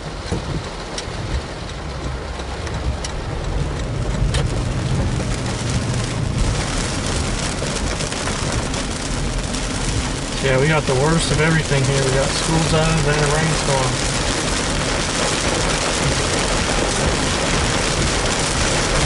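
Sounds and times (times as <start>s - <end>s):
heavy rain on car roof: 0.0s - 19.0s
low rumble of car on road: 0.0s - 19.0s
sharp raindrop hits: 0.0s - 19.0s.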